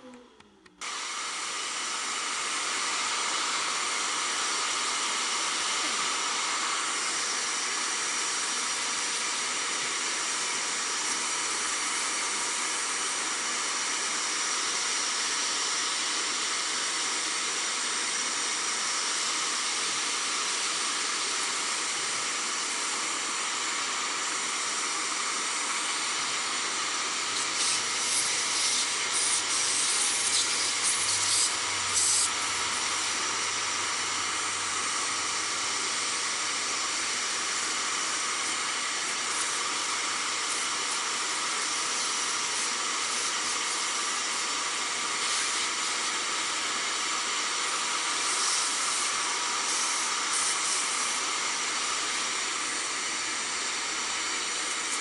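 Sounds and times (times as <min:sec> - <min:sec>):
shop vacuum running: 0:00.0 - 0:55.0
vacuum nozzle hissing surges: 0:00.8 - 0:55.0.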